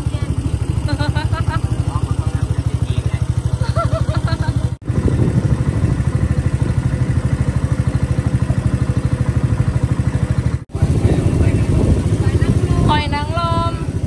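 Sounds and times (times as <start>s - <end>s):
boat engine throbbing: 0.0s - 14.0s.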